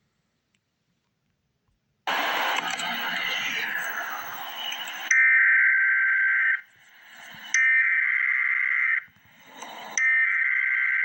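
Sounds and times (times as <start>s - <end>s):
buzzing two-tone data signal: 2.1s - 11.0s.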